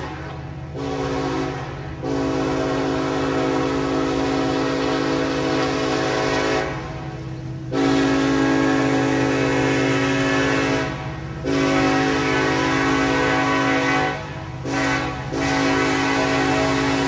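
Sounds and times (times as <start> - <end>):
locomotive air horn chord: 0.0 - 17.0
locomotive low rumble: 0.0 - 17.0.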